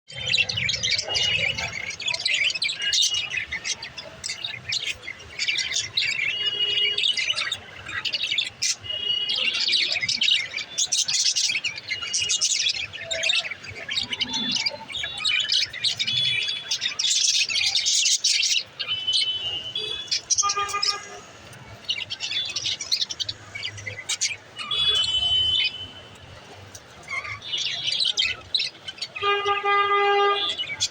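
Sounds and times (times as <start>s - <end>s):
budgerigars chirping: 0.2s - 26.2s, 26.8s - 29.7s.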